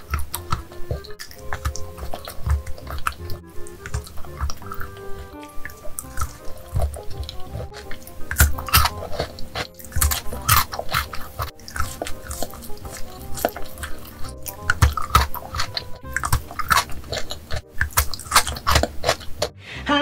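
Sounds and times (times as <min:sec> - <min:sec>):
chewing and mouth clicks: 0:00.0 - 0:19.6
crisp chocolate crunching: 0:00.0 - 0:19.6
soft background music: 0:00.0 - 0:20.0.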